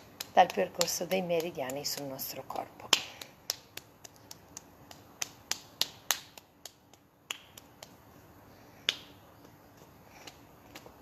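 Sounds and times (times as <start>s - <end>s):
hand slapping bare skin: 0.0s - 8.2s, 8.8s - 11.0s.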